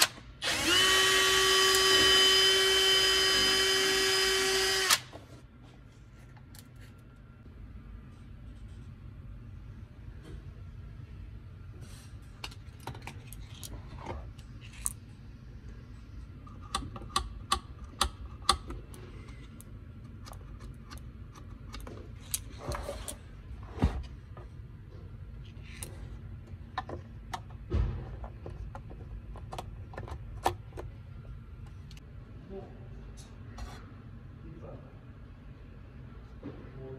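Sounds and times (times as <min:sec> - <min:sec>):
low steady hum: 0:00.1 - 0:36.9.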